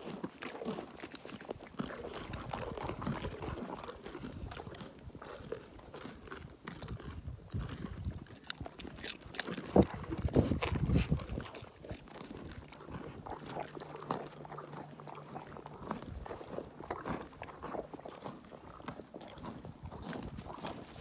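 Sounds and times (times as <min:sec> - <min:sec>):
alpacas crunching carrots: 0:00.0 - 0:21.0.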